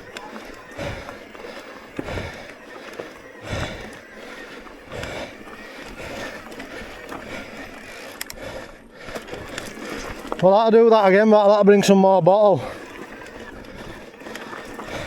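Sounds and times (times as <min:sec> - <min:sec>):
bike tyres rattling on dirt trail: 0:00.0 - 0:15.0.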